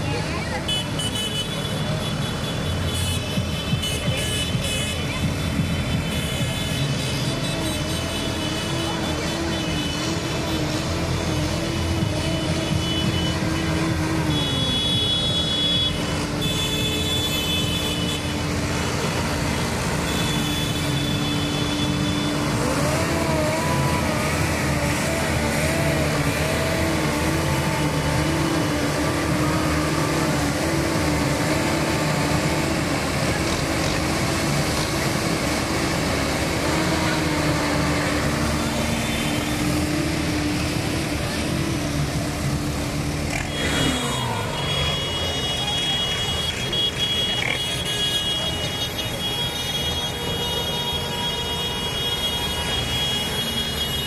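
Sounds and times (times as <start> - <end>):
tractor diesel engines running: 0.0 - 54.0.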